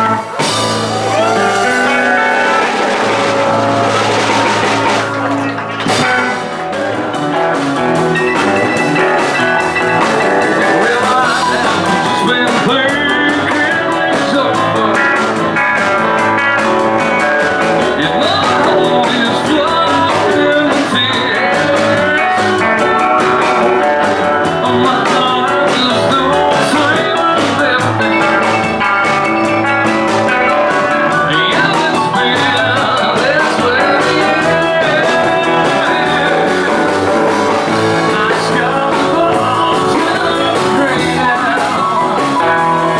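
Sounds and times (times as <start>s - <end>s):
bass: 0.0s - 42.9s
drums: 0.0s - 42.9s
electric guitar: 0.0s - 42.9s
person singing: 0.0s - 42.9s.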